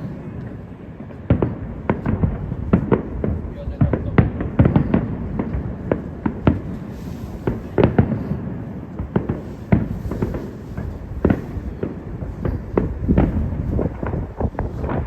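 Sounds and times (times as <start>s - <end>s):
fireworks bursting with booming bangs: 0.0s - 15.0s
low rumble and crackle: 0.0s - 15.0s.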